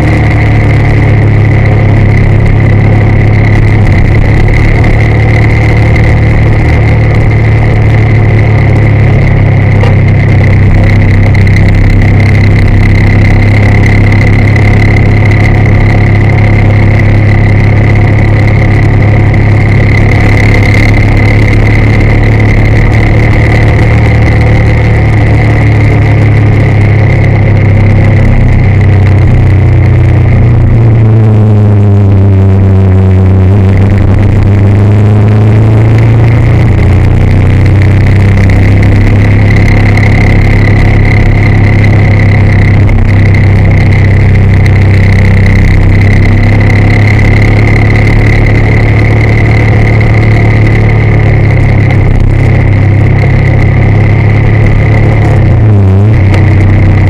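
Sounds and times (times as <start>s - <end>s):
motorcycle engine running: 0.0s - 57.0s
steady high whine: 0.0s - 57.0s.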